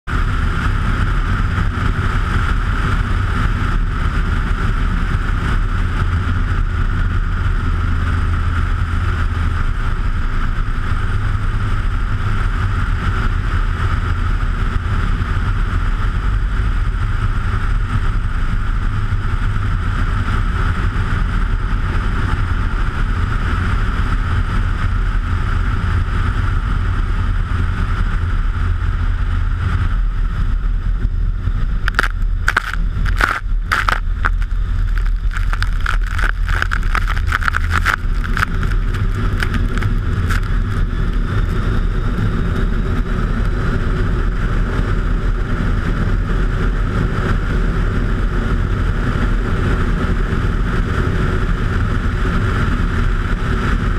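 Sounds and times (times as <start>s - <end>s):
small plane engine and propeller droning: 0.1s - 53.9s.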